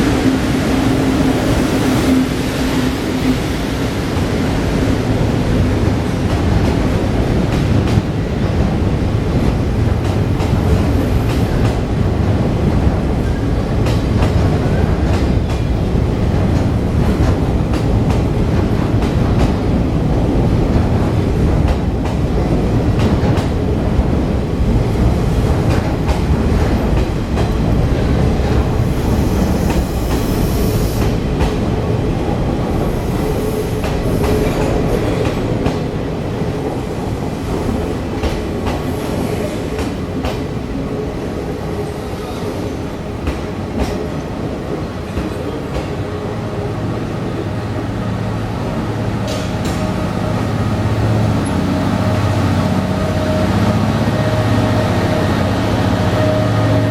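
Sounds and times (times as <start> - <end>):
train rumbling: 0.0 - 56.9.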